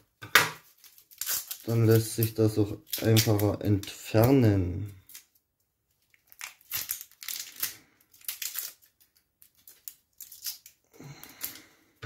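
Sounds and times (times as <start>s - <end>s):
onion skin crackling as peeled: 0.6s - 5.4s, 6.0s - 11.7s.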